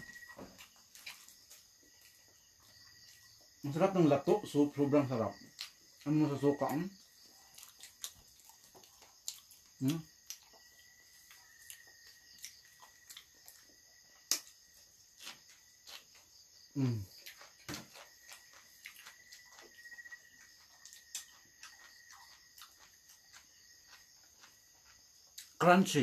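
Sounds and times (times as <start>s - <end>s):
chewing and smacking: 0.0s - 3.6s, 5.4s - 25.6s
crickets chirring: 0.0s - 26.0s.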